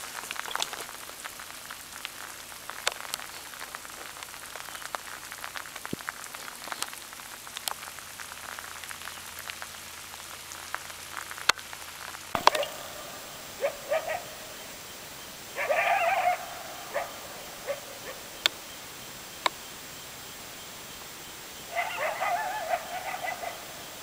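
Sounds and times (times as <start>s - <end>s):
rain pattering: 0.0s - 24.0s
sharp taps of raindrops: 0.0s - 24.0s.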